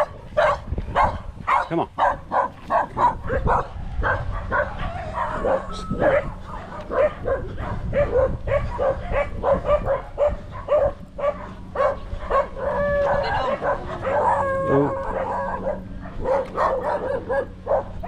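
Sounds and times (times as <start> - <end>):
dog barking: 0.0 - 18.0.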